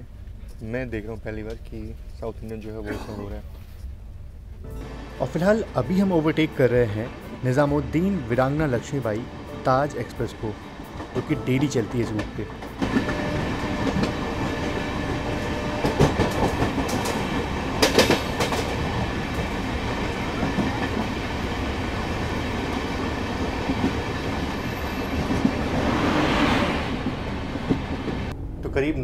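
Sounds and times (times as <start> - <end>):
passing electric locomotive: 4.1 - 28.7
train wheels rumbling on rails: 5.2 - 28.9.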